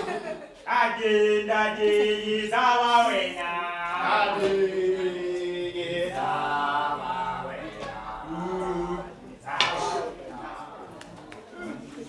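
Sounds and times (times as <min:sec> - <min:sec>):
voices chanting slow song: 0:00.0 - 0:12.0.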